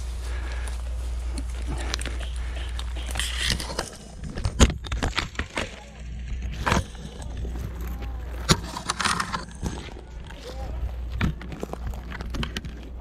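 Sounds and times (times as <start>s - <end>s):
twigs snapping and crackling: 0.4s - 13.0s.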